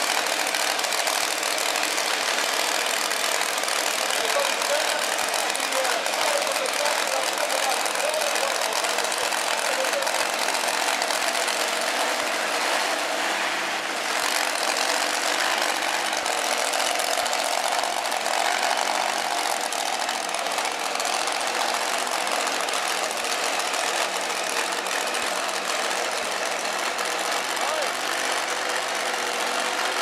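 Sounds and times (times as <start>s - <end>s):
pulling vehicle engine running: 0.0s - 30.0s.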